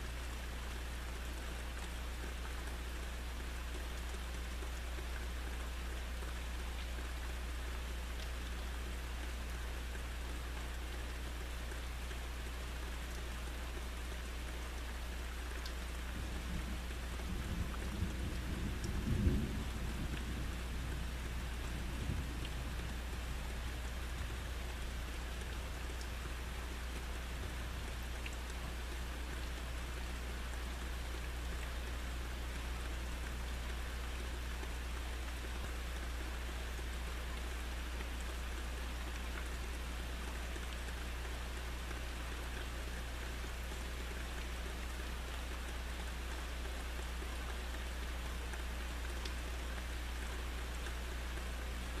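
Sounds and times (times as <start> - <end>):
constant low hum: 0.0 - 52.0
steady rain falling: 0.0 - 52.0.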